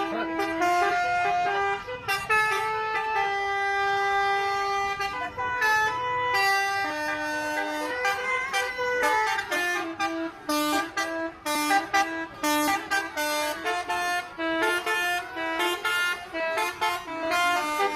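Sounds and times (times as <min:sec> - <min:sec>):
multi-tone bus horn tune: 0:00.0 - 0:17.9.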